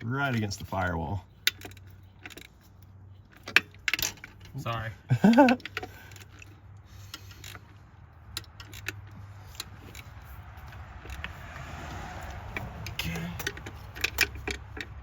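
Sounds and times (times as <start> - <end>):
hand tools clicking and clinking: 1.4 - 15.0.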